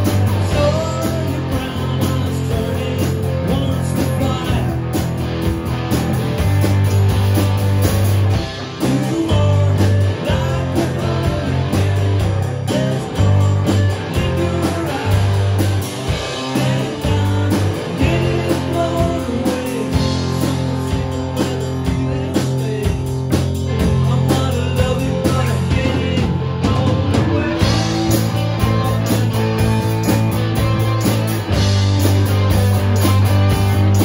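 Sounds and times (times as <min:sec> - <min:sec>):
electric bass guitar low notes: 0:00.0 - 0:34.0
rock band playing live: 0:00.0 - 0:34.0.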